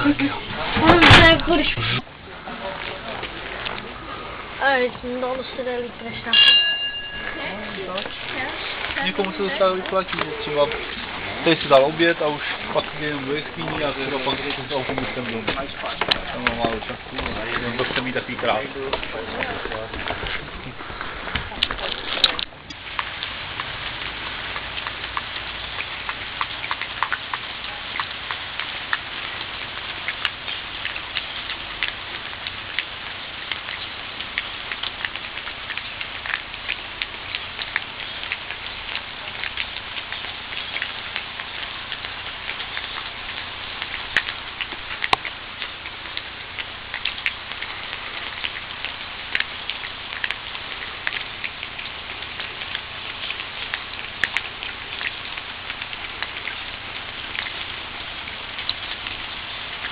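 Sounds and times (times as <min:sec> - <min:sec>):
raindrops pattering: 0:00.0 - 0:59.9
steady rain hiss: 0:00.0 - 0:59.9.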